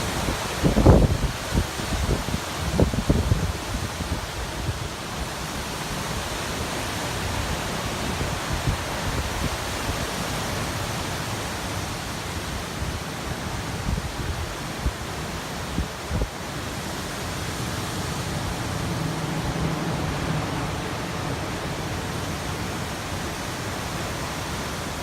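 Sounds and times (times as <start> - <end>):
strong wind rushing: 0.0 - 10.3, 13.7 - 25.0
wind gusts buffeting microphone: 0.0 - 25.0.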